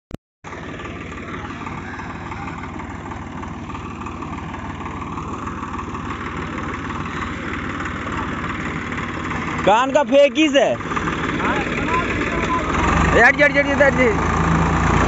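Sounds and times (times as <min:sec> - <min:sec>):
tractor diesel engine running: 0:00.4 - 0:15.0.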